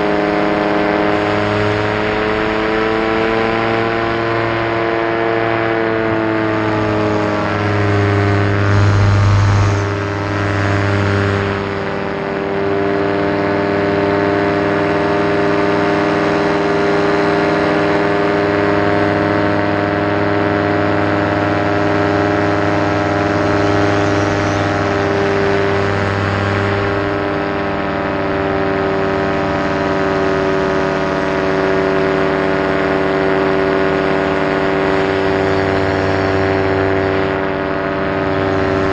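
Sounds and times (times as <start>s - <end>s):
paramotor engine and propeller drone: 0.0s - 38.9s.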